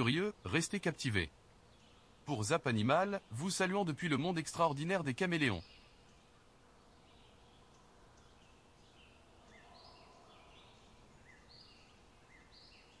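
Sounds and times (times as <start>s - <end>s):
distant bird chirps: 0.0s - 13.0s
low background hiss: 0.0s - 13.0s.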